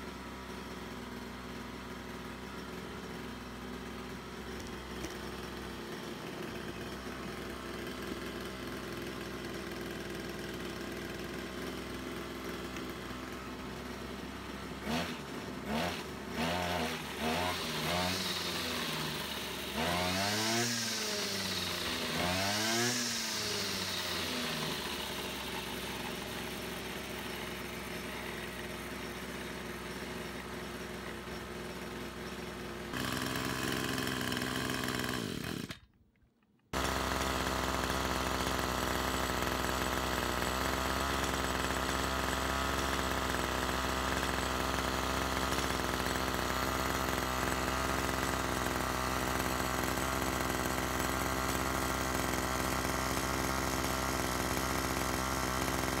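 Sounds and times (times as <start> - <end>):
brush cutter engine running: 0.0 - 36.0, 36.6 - 56.0.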